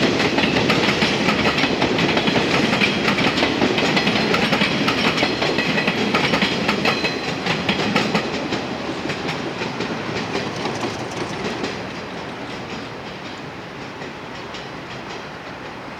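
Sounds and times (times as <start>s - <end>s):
train wheels clicking over rail joints: 0.0s - 15.9s.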